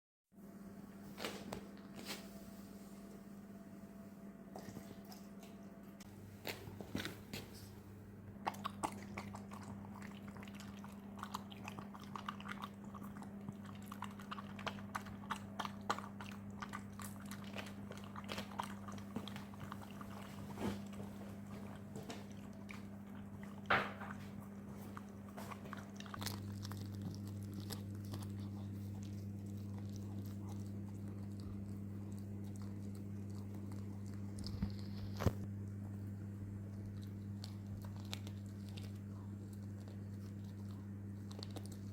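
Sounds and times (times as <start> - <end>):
steady low hum: 0.3 - 41.9
dog chewing and crunching food: 4.4 - 41.9.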